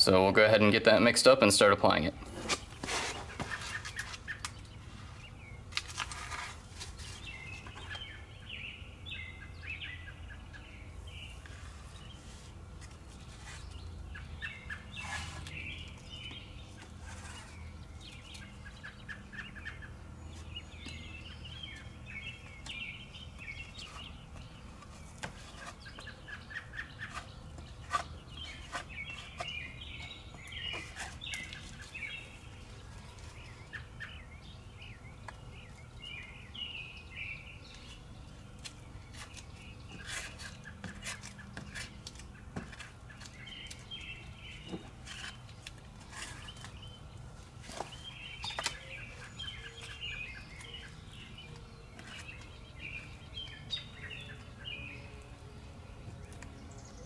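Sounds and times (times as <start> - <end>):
birds chirping and chattering: 0.0 - 57.0.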